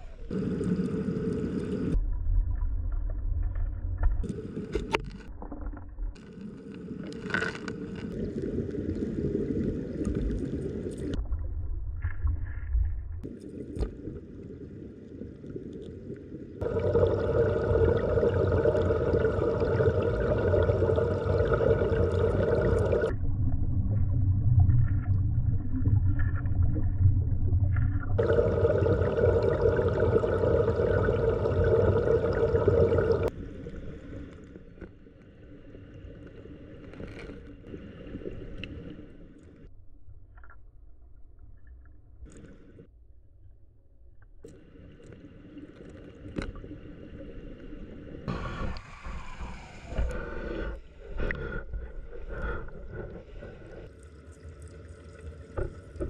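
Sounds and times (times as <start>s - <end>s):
muffled underwater stream rushing: 0.0s - 40.0s, 44.4s - 56.0s.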